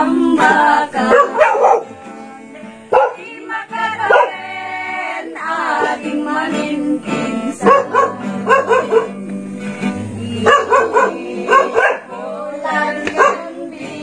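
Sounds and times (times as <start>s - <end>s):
instrumental backing: 0.0s - 14.0s
person singing carol: 0.0s - 14.0s.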